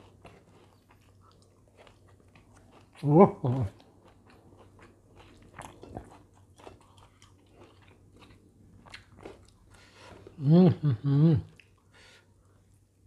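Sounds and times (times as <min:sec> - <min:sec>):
faint chewing with mouth smacks: 0:00.0 - 0:10.4, 0:11.5 - 0:12.9.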